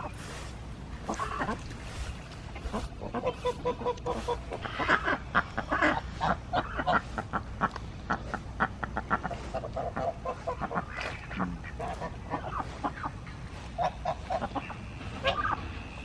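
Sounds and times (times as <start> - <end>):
ducks and geese honking and quacking: 0.0 - 16.0.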